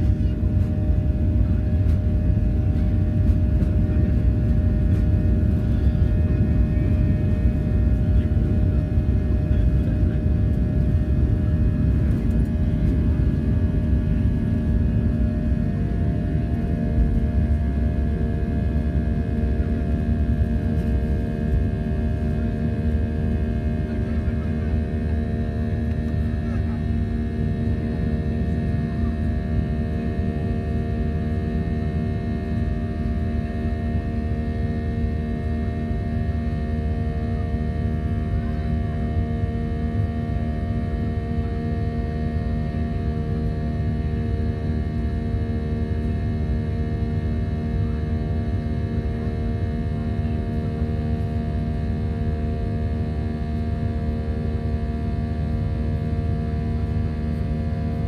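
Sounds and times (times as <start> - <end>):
airliner cabin engine drone: 0.0 - 58.0
steady whining engine tones: 0.0 - 58.0.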